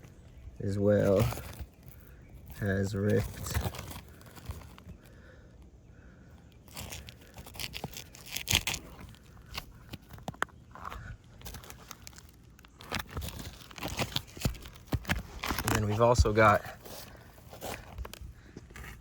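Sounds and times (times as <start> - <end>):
roof shingles crackling and scraping: 0.0 - 5.3, 6.4 - 19.0.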